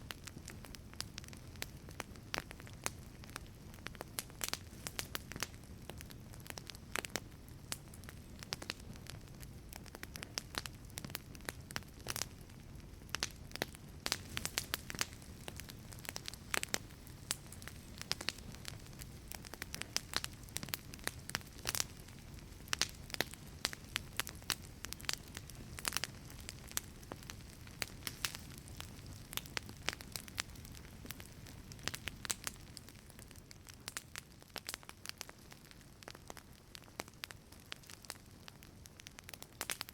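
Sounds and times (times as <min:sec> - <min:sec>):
low rumble of flame: 0:00.0 - 0:39.9
wood crackling and popping: 0:00.0 - 0:39.9.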